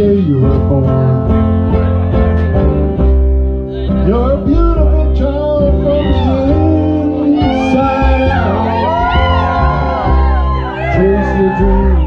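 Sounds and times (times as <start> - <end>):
acoustic guitar: 0.0 - 12.0
bass: 0.0 - 12.0
live country band: 0.0 - 12.0.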